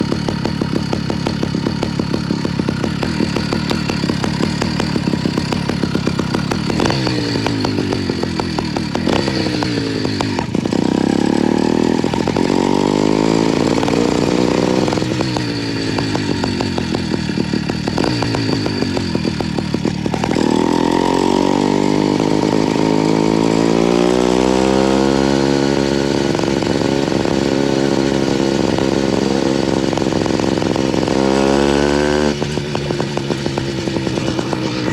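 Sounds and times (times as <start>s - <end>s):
small engine revving: 0.0s - 34.9s.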